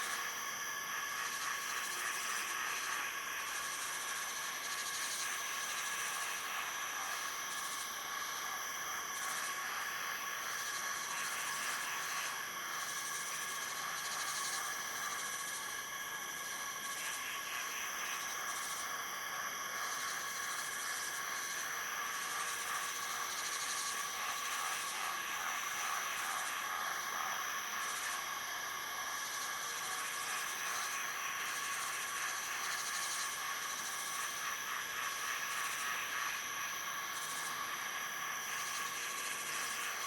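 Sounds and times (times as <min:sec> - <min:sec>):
insects buzzing and trilling: 0:00.0 - 0:40.0.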